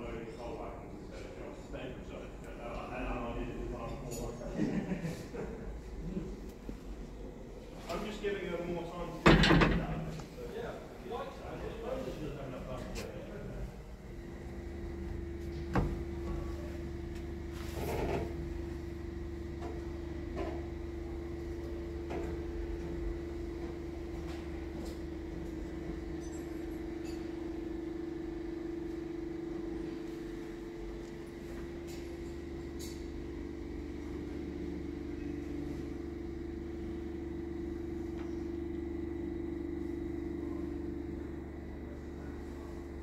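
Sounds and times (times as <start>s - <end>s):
mechanical hum: 0.0s - 43.0s.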